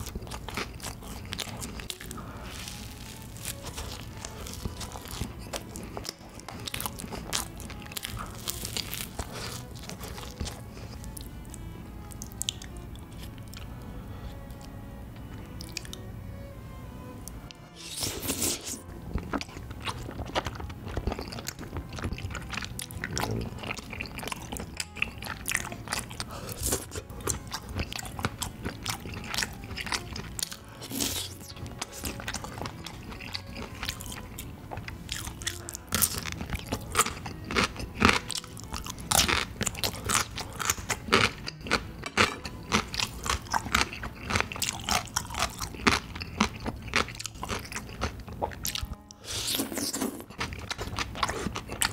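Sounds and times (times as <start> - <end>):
chewing with wet smacking: 0.0 - 11.4, 12.1 - 13.7, 18.4 - 51.9.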